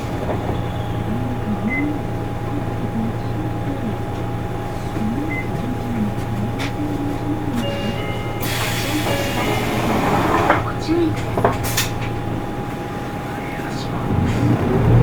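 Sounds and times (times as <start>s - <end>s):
bus diesel engine humming: 0.0s - 15.0s
faint low voices: 0.0s - 15.0s
thin steady whine: 0.0s - 15.0s.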